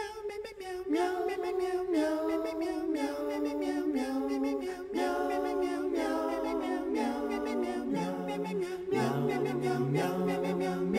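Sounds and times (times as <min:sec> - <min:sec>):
voices singing in close harmony: 0:00.0 - 0:10.9.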